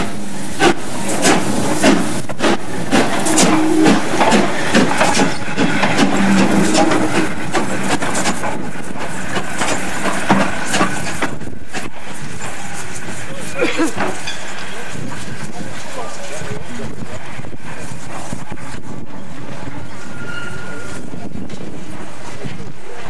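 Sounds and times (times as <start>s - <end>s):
locomotive clanks: 0.0s - 23.0s
steam locomotive exhaust beats: 0.0s - 23.0s.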